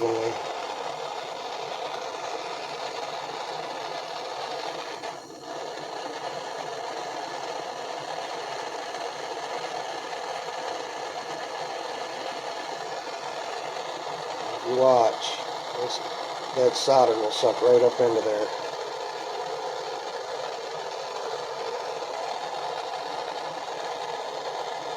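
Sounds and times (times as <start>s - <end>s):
torch flame hissing: 0.0s - 24.9s.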